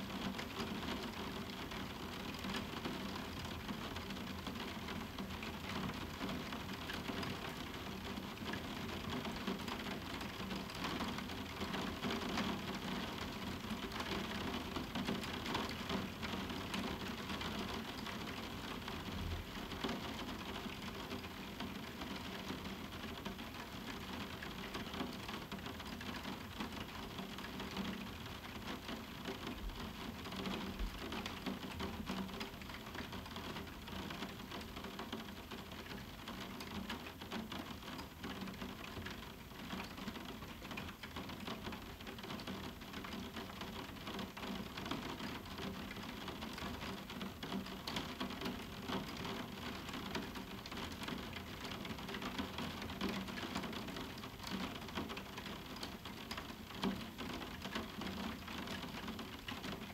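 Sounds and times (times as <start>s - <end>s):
rain tapping on a window: 0.0s - 59.9s.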